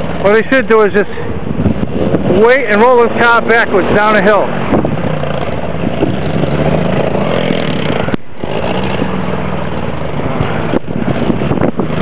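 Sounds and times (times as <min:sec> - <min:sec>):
car engine revving hard: 0:01.5 - 0:12.0.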